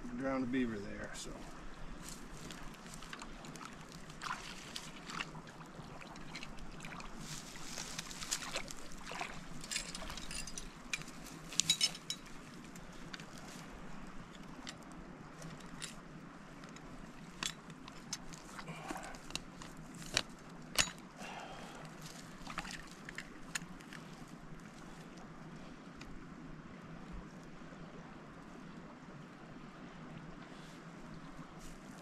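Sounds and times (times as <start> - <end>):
river water splashing: 0.3 - 32.0.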